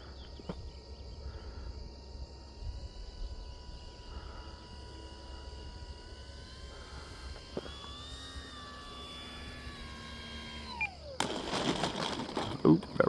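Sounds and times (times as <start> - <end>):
model plane electric motor whining: 0.0 - 13.0.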